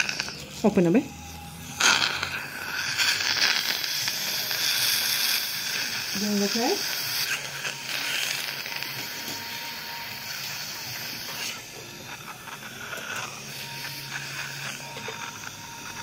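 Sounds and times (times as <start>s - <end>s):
dental suction tube hissing: 0.0s - 0.9s, 1.8s - 16.0s.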